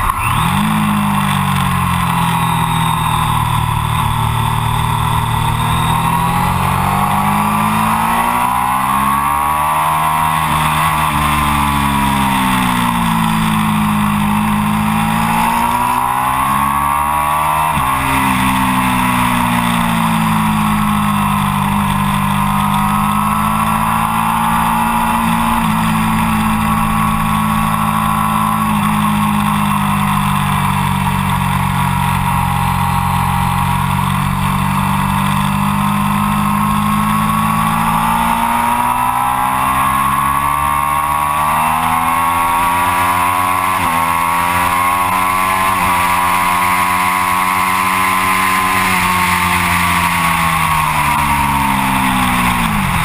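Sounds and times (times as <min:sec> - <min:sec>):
motorcycle engine at high revs: 0:00.0 - 0:53.0.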